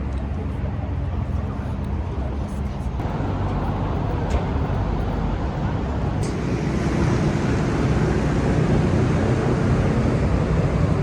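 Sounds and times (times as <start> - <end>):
car engines and traffic rumble: 0.0 - 11.0.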